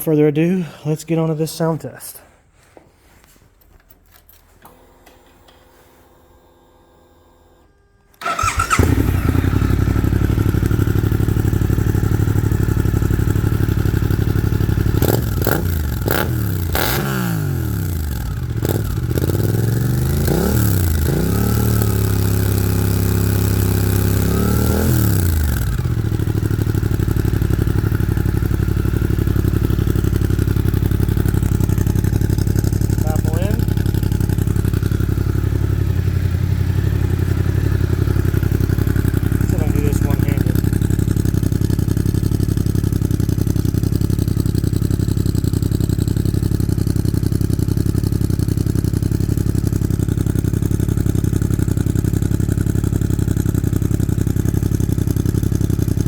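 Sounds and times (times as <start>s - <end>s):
motorcycle engine idling and revving: 8.2s - 56.0s.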